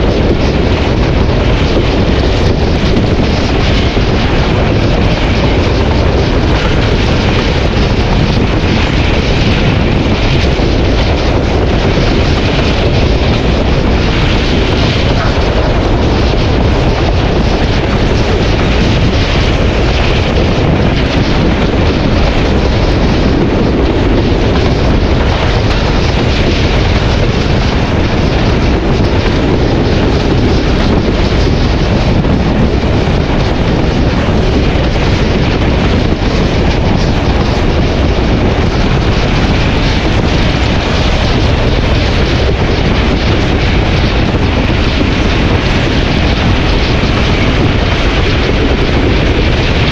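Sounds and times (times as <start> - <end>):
diesel locomotive running: 0.0 - 49.9
wind on microphone: 0.0 - 49.9.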